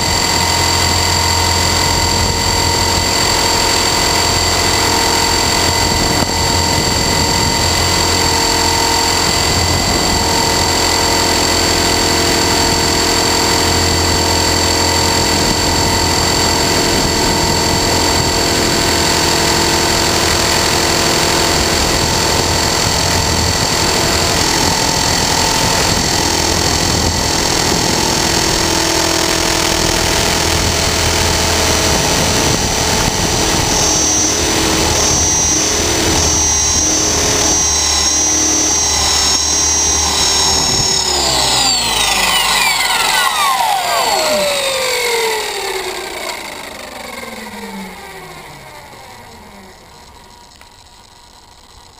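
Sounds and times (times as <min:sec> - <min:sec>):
rc helicopter rotor whine: 0:00.0 - 0:51.9.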